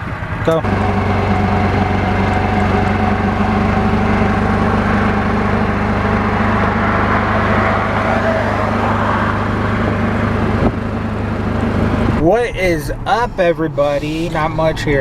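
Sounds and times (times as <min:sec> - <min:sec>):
car engine hum: 0:00.0 - 0:15.0
road and wind noise: 0:00.0 - 0:15.0.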